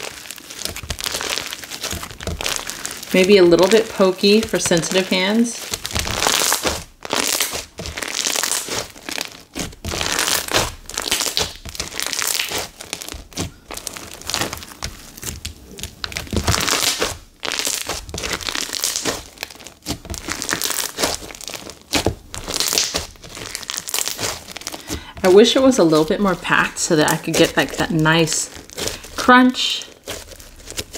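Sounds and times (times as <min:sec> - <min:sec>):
slime crackly popping: 0:00.0 - 0:30.9.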